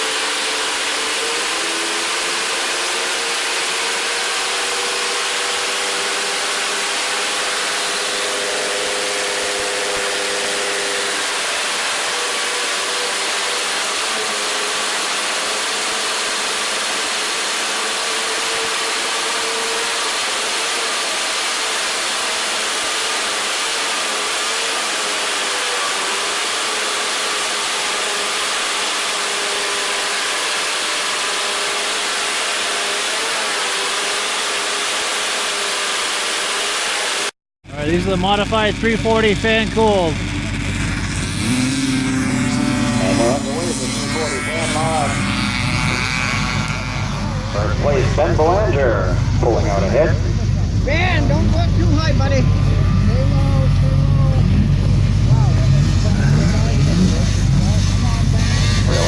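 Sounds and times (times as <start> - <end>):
snowmobile engines running: 0.0 - 59.0.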